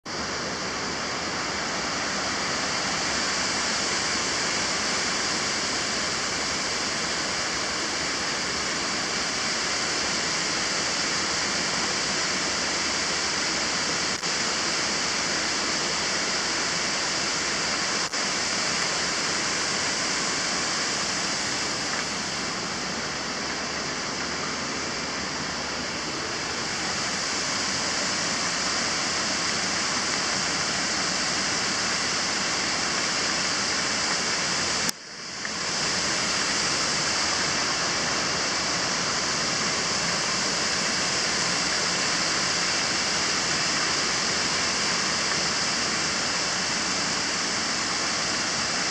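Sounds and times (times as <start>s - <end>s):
waterfall rushing onto rocks: 0.1s - 48.9s.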